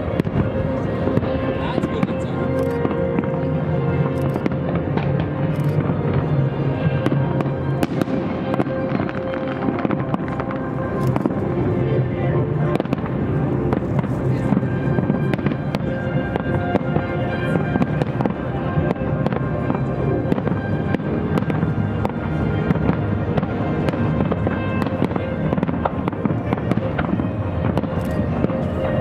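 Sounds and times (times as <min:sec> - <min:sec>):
fireworks bursting: 0:00.0 - 0:29.0
music playing: 0:00.0 - 0:29.0.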